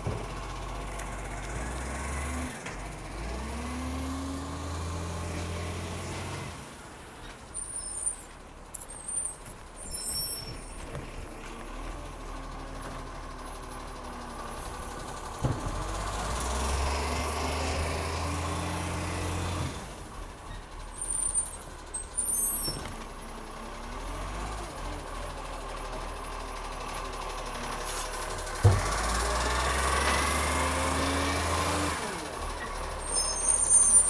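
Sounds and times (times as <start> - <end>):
garbage truck diesel engine: 0.0 - 34.0.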